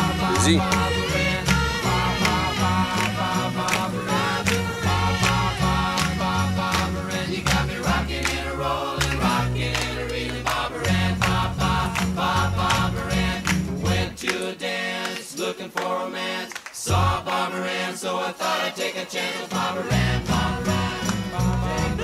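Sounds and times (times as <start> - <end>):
group singing over a beat: 0.0 - 22.0.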